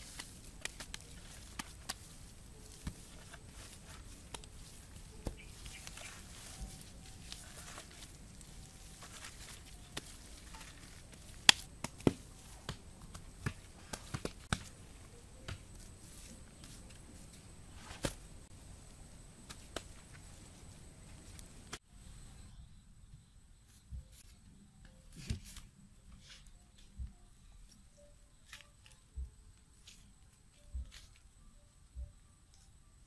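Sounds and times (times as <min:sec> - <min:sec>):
faint background noise: 0:00.0 - 0:33.0.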